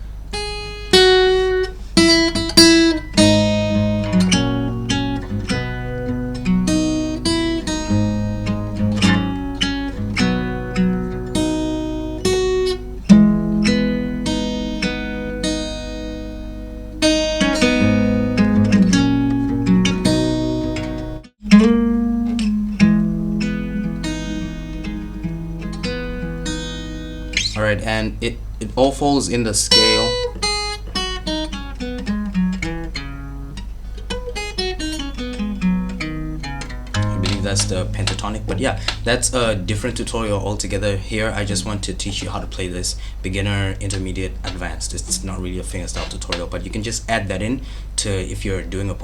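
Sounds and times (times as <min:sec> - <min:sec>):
fingerstyle acoustic guitar: 0:00.0 - 0:28.7, 0:29.3 - 0:48.0.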